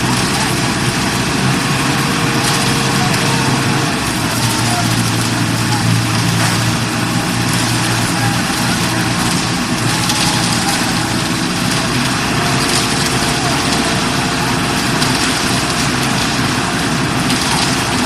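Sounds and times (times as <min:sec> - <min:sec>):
dense mechanical noise: 0:00.0 - 0:18.0
truck engine running: 0:00.0 - 0:18.0.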